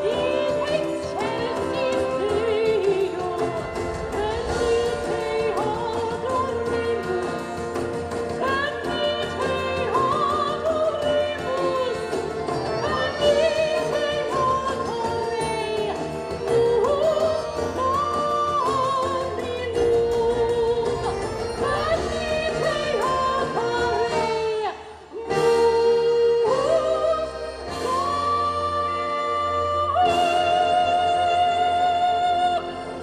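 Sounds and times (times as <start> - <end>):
instrumental backing music: 0.0 - 33.0.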